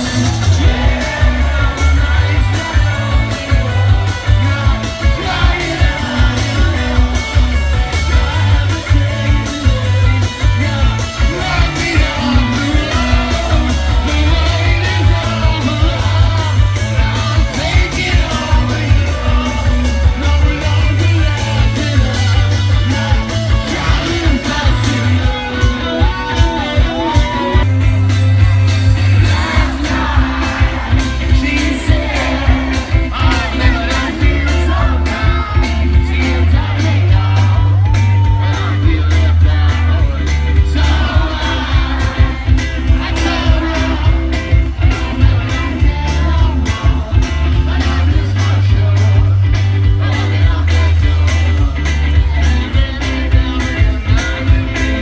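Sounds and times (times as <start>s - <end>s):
person singing: 0.0s - 27.8s, 28.9s - 55.0s
rock band playing live: 0.0s - 55.0s.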